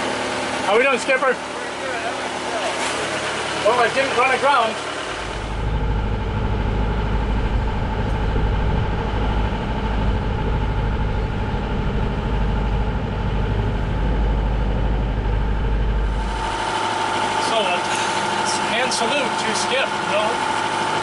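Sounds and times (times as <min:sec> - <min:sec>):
boat engine running steadily: 0:00.0 - 0:21.0.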